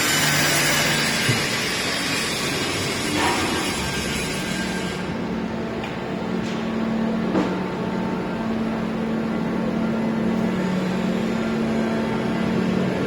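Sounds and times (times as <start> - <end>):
machine hum with low drone: 0.0 - 13.0.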